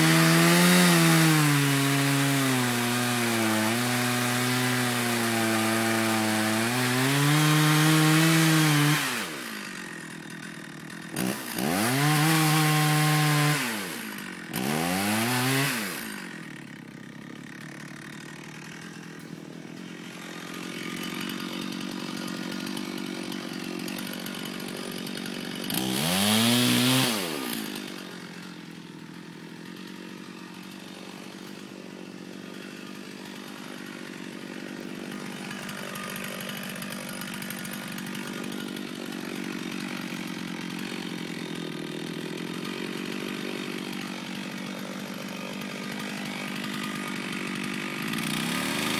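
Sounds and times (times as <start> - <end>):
chainsaw revving and idling: 0.0 - 48.9.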